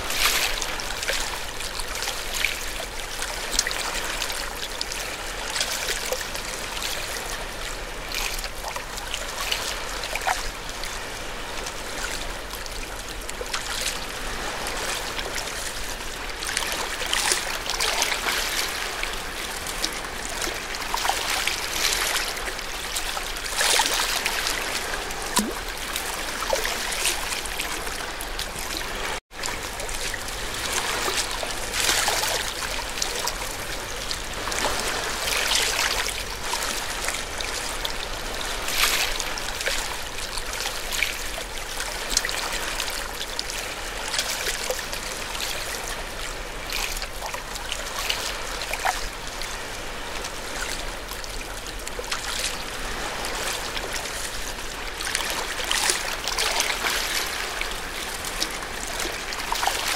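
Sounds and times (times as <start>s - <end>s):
ocean waves splashing at shore: 0.0s - 59.9s.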